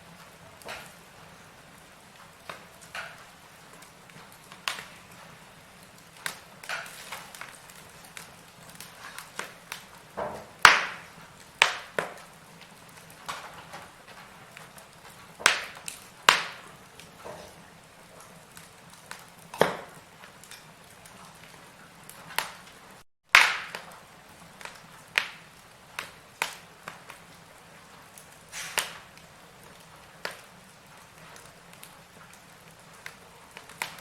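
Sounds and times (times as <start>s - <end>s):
fire hiss: 0.0s - 23.0s, 23.7s - 34.0s
firewood crackling and popping: 0.0s - 34.0s.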